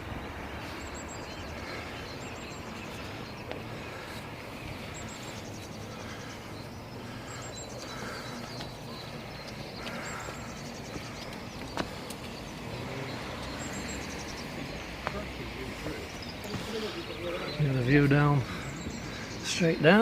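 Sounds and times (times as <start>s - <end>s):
outdoor background rumble: 0.0s - 20.0s
small birds chirping: 0.0s - 20.0s.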